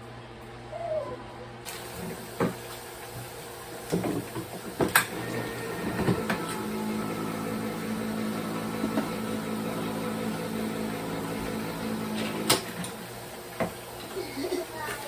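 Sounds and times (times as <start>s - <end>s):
kitchen appliance humming: 0.6s - 15.0s.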